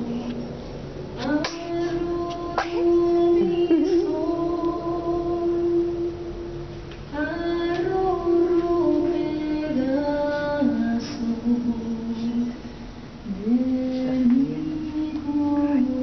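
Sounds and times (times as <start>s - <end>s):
woman singing slow melody: 0.0s - 0.5s, 1.2s - 16.0s.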